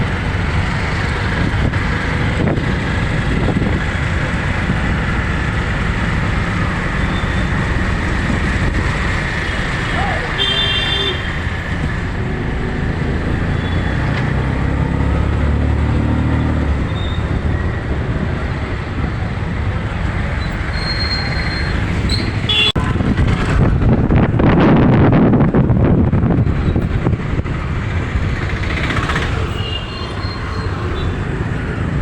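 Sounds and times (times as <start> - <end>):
vehicle engines running: 0.0 - 32.0.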